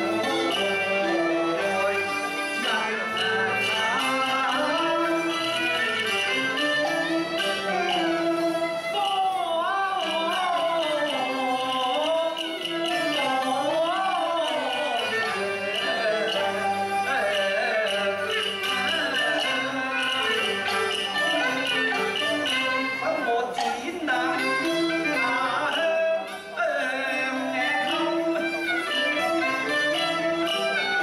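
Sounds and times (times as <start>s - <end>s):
opera aria with ensemble: 0.0s - 31.0s.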